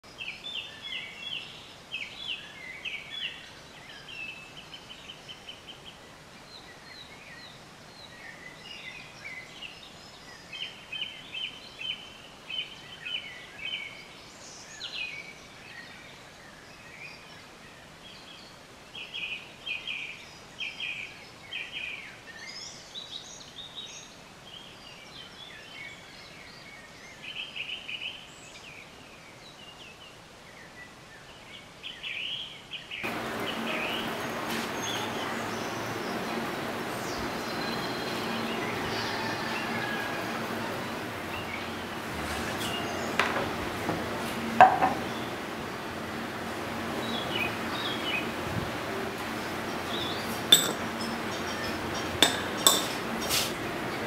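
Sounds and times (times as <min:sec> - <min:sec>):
small birds chirping trills: 0:00.0 - 0:54.0
faint steady hiss: 0:00.1 - 0:54.0.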